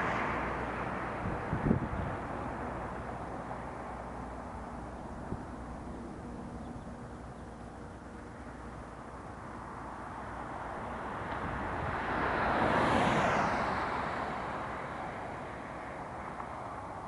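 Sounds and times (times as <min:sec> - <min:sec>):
propeller airplane passing overhead: 0:00.0 - 0:17.0.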